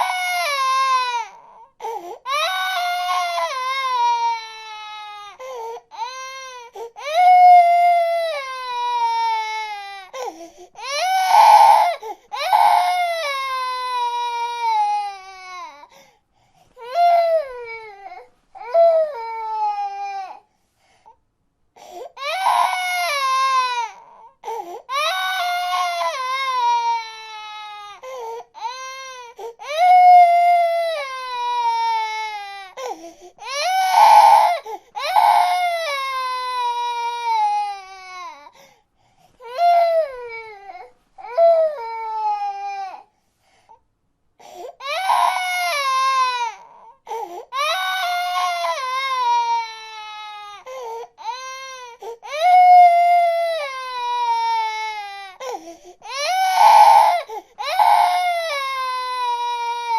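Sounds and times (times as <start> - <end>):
baby crying: 0.0 - 16.0, 16.8 - 20.4, 22.0 - 38.6, 39.4 - 43.1, 44.5 - 59.9.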